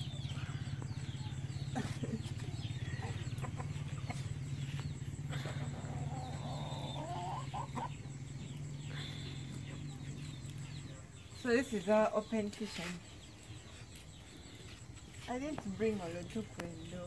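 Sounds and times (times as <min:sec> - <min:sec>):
chickens calling: 0:00.0 - 0:15.3
steady low hum: 0:00.0 - 0:17.0.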